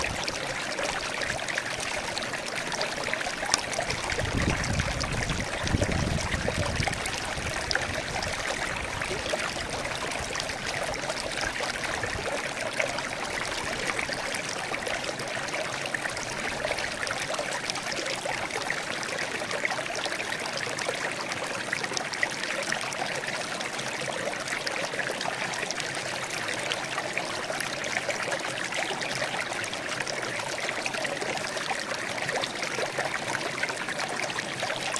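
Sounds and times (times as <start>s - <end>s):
stream babbling over stones: 0.0s - 34.9s.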